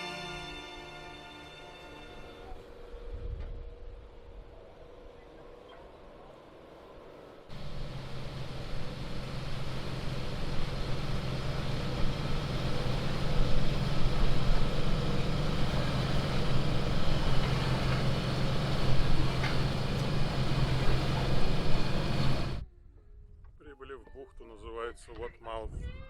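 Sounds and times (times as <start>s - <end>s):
boat engine droning: 0.0s - 22.6s.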